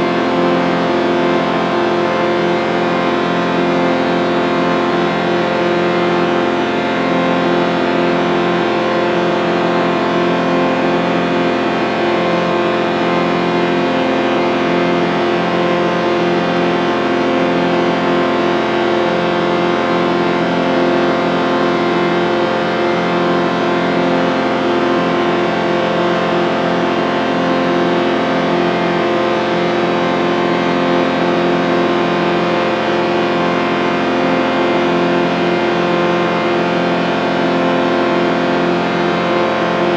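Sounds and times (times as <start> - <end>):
sustained synth chord: 0.0 - 39.9.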